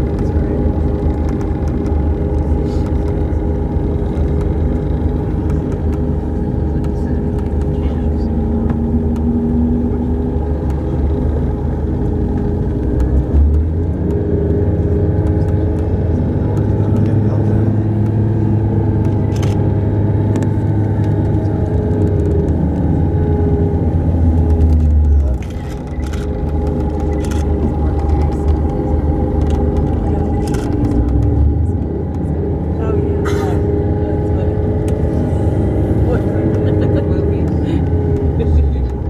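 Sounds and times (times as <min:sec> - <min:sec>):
bus engine droning: 0:00.0 - 0:39.0.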